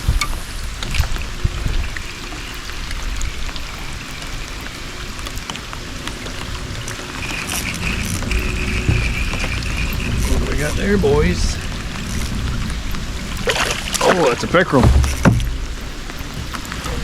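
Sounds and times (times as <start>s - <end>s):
rain pattering on water: 0.0s - 17.0s.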